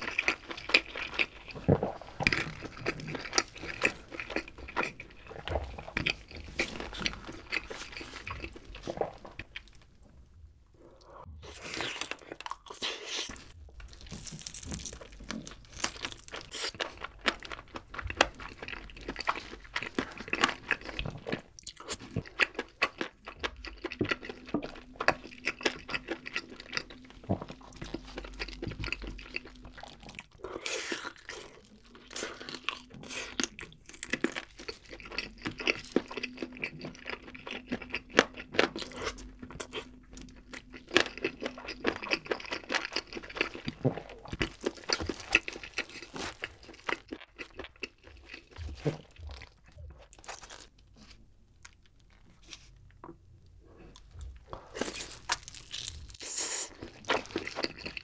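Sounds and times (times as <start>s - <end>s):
person chewing and crunching: 0.0s - 9.9s, 10.9s - 58.0s.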